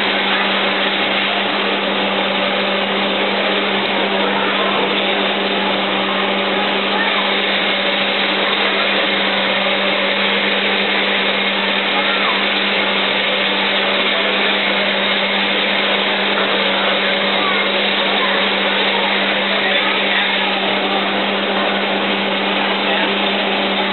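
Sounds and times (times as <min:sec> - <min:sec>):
electric motor humming: 0:00.0 - 0:23.9.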